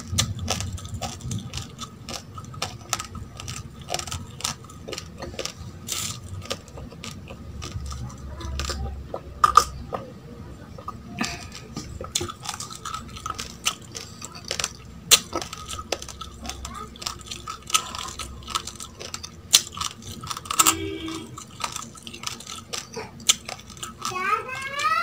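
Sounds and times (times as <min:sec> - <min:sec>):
rice grains being chewed: 0:00.0 - 0:25.0.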